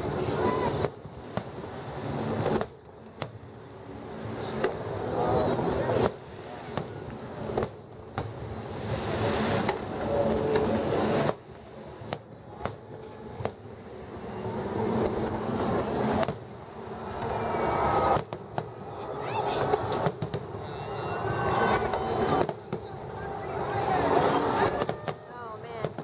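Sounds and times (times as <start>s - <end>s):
continuous rumbling: 0.0s - 26.0s.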